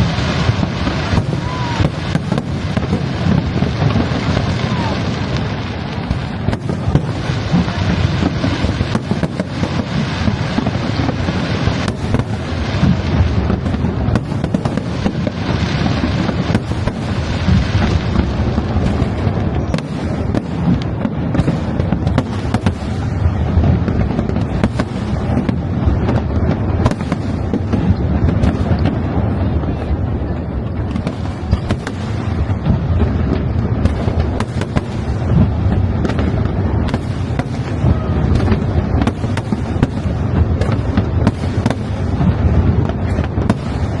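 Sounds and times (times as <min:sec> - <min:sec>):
firework bangs and booms: 0:00.0 - 0:44.0.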